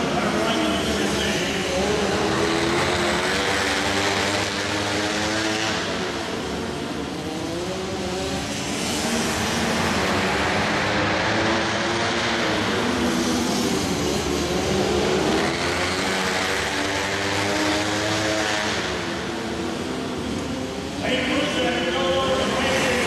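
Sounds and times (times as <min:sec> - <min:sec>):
racing motorcycle engines revving: 0:00.0 - 0:23.0.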